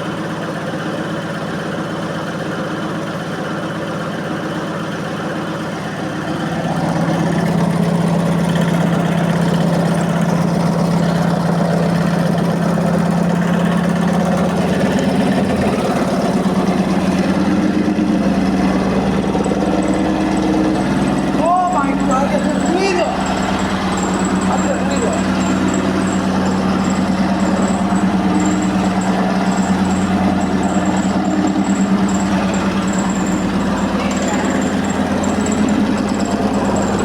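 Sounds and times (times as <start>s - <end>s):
washing machine motor hum: 0.0s - 37.0s.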